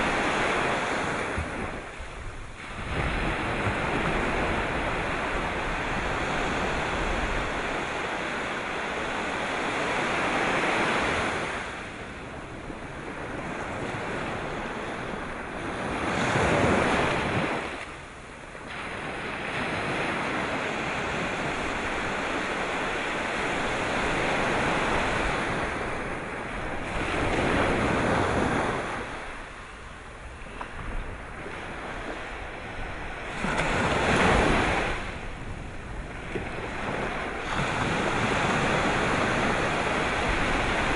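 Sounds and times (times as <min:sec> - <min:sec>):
sea waves breaking: 0:00.0 - 0:40.9.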